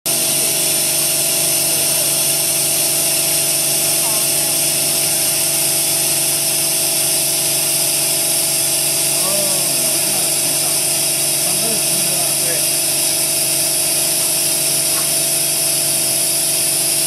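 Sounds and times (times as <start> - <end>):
laser cleaning machine hum and hiss: 0.1 - 17.0.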